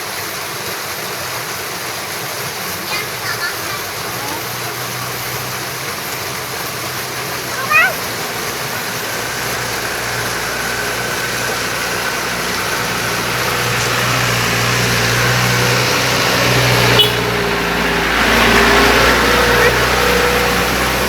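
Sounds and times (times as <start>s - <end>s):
engine running: 0.0s - 21.0s
river water rushing: 0.0s - 21.0s.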